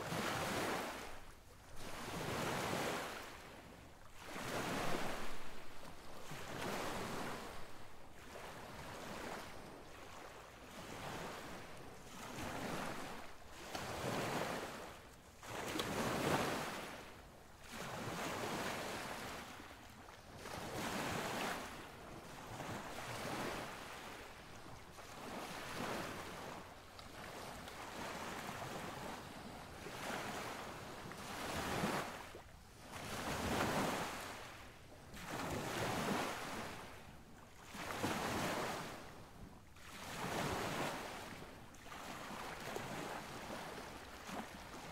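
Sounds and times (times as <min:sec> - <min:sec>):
wind: 0:00.0 - 0:44.9.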